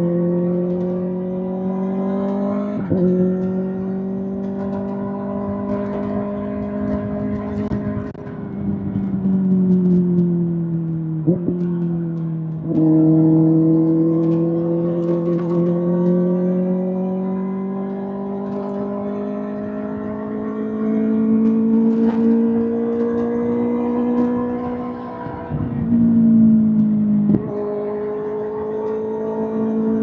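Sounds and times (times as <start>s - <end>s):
motorcycle engine rising in pitch: 0.0s - 30.0s.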